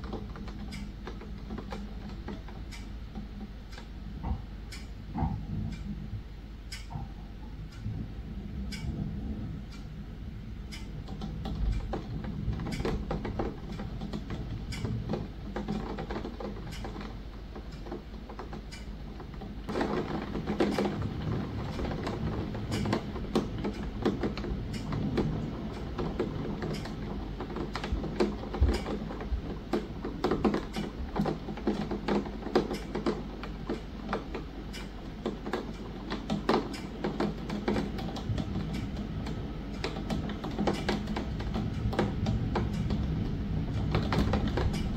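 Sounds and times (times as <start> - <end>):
rain tapping on a window: 0.0 - 4.5, 6.9 - 44.9.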